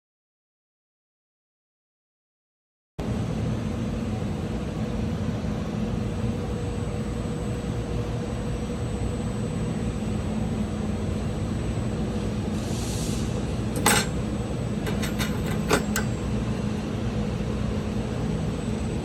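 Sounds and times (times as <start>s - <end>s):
high constant whine: 3.0s - 19.0s
steady machine hum: 3.0s - 19.0s.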